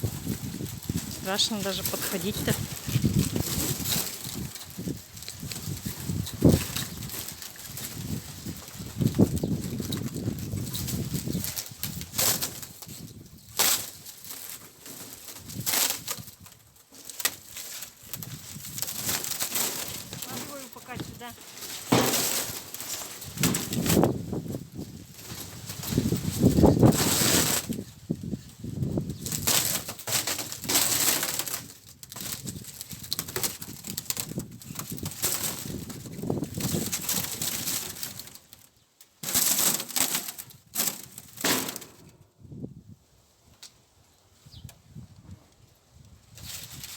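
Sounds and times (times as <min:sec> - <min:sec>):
plastic sheeting crackling and flapping: 0:00.0 - 0:42.2, 0:46.3 - 0:46.9.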